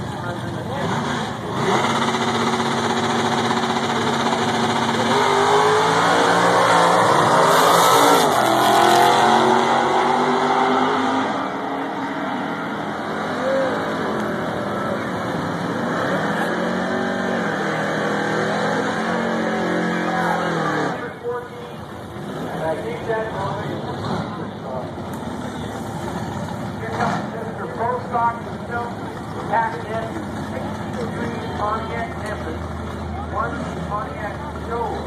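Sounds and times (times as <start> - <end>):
drag racing car engines: 0.0 - 35.0.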